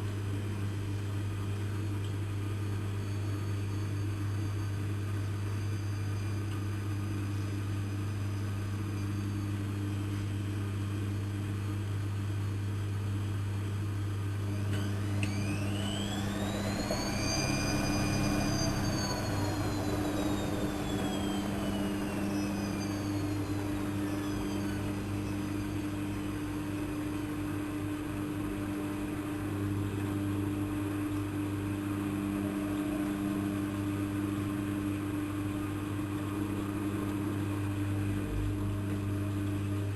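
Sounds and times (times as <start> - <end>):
motor whine: 0.0 - 39.9
washing machine motor hum: 0.0 - 39.9.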